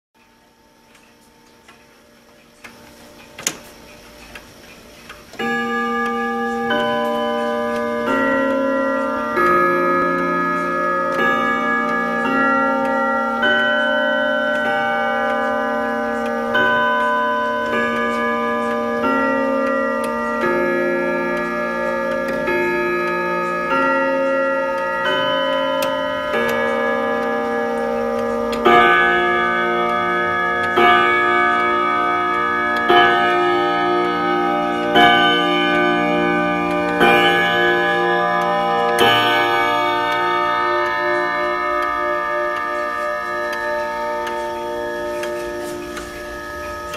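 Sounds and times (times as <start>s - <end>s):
clock striking: 0.4s - 46.9s
clock ticking: 0.4s - 46.9s
clock chime tune: 5.3s - 46.9s.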